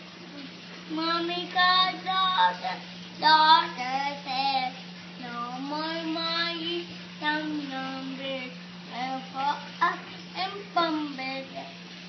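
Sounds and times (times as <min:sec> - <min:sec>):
steady low hum: 0:00.0 - 0:12.0
toddler girl chanting sing-song: 0:00.4 - 0:11.8.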